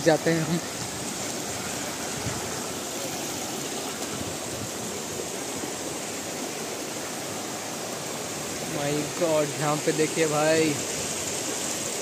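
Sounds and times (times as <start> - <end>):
stream rushing over boulders: 0.0 - 12.0.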